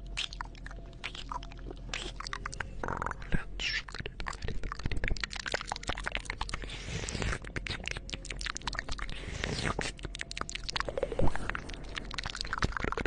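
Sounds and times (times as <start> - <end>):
wet mouth clicks and smacks: 0.0 - 13.0.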